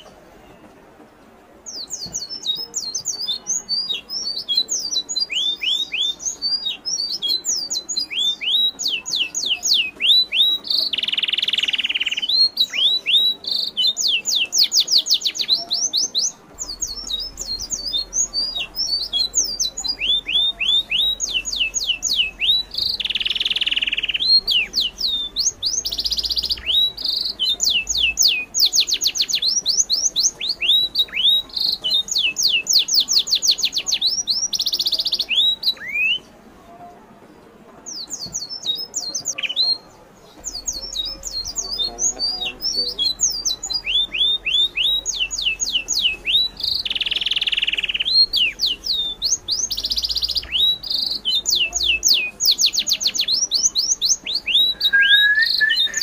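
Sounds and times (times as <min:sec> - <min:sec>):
birds chirping: 0:01.4 - 0:36.6, 0:37.3 - 0:56.0.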